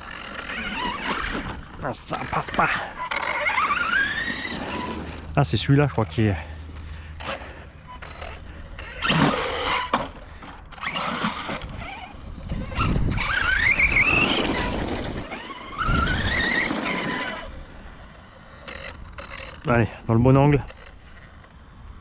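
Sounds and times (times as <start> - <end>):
electric motor whining: 0.0 - 22.0
running gear and tyre noise: 0.0 - 22.0.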